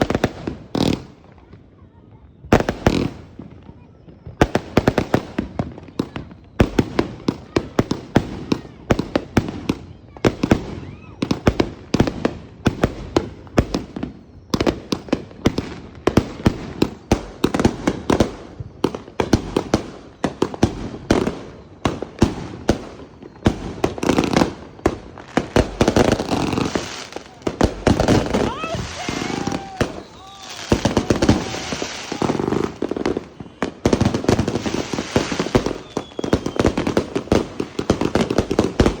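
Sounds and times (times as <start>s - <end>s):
fireworks cracking and banging: 0.0s - 39.0s.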